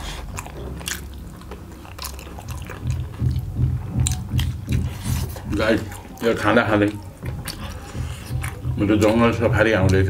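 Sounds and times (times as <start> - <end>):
chewing and wet mouth smacks: 0.0 - 10.0
low rhythmic thudding: 0.0 - 10.0.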